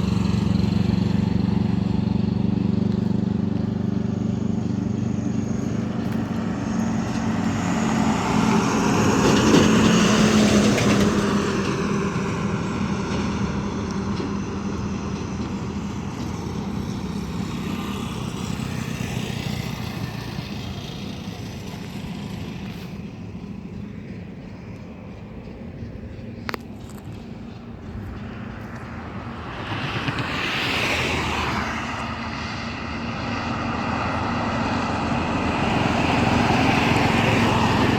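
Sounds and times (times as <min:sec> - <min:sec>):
truck engine drone: 0:00.0 - 0:37.9.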